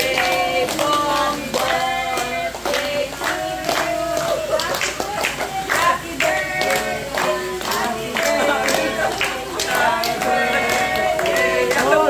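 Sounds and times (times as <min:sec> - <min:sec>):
group singing a celebration song: 0:00.0 - 0:12.0
people clapping: 0:00.0 - 0:12.0.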